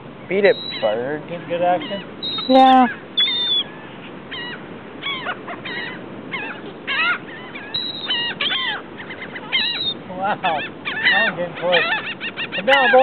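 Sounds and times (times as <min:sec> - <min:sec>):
gulls squawking: 0:00.0 - 0:13.0
steady background hiss: 0:00.0 - 0:13.0.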